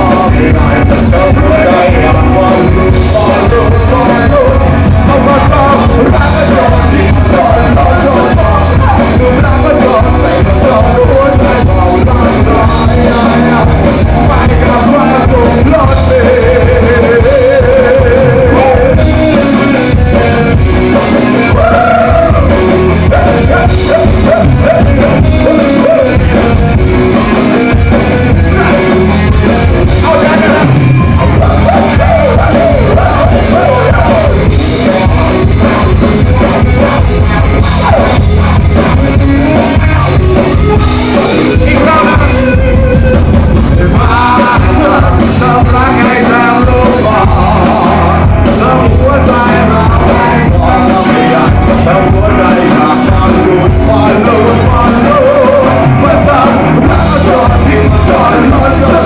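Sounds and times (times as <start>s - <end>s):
live rock band: 0.0s - 59.0s
person singing: 0.0s - 59.0s.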